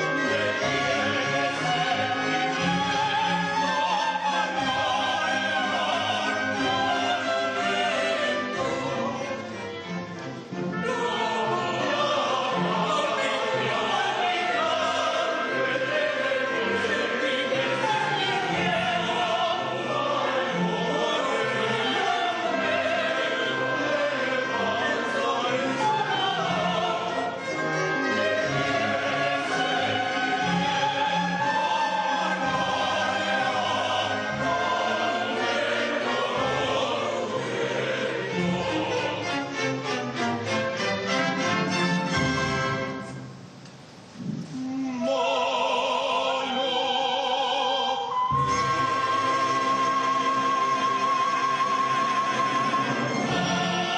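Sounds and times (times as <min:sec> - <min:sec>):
choir singing: 0:00.0 - 0:43.2, 0:44.2 - 0:53.9
symphony orchestra: 0:00.0 - 0:53.9.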